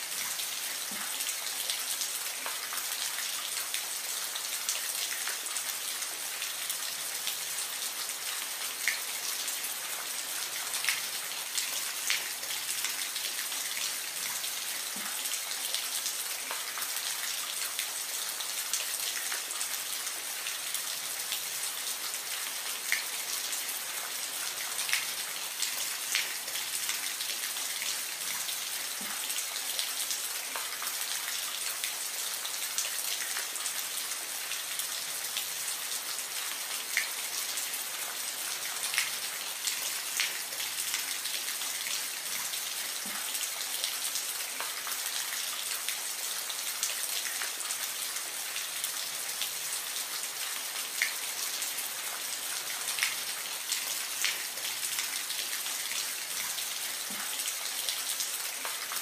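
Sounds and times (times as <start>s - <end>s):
soft rain hiss: 0.0s - 59.0s.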